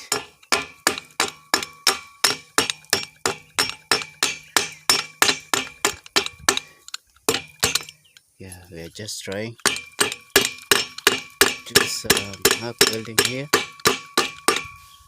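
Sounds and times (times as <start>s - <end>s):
hammer striking steel disc: 0.0s - 6.7s, 7.3s - 8.0s, 9.6s - 14.8s.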